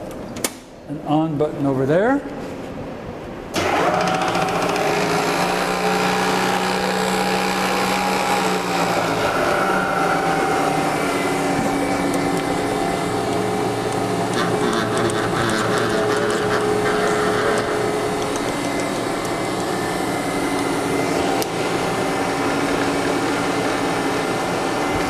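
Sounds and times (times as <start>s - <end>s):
milling machine motor humming: 3.6s - 25.0s.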